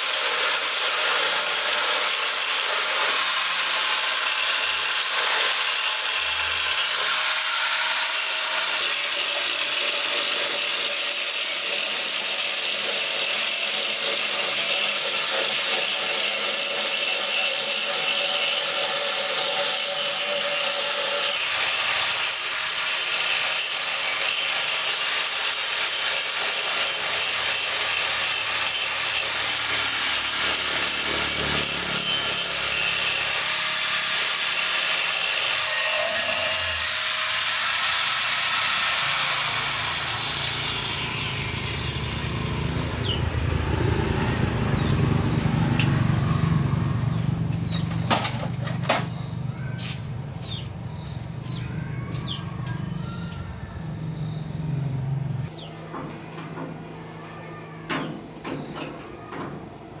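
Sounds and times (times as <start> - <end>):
abrasive power tool rasping: 0.0 - 51.6.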